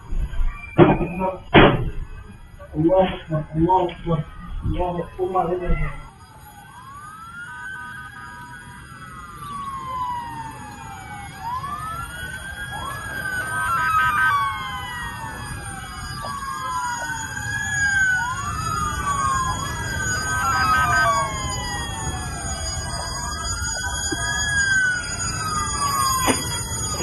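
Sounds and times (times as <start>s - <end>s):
emergency sirens wailing: 0.0s - 27.0s.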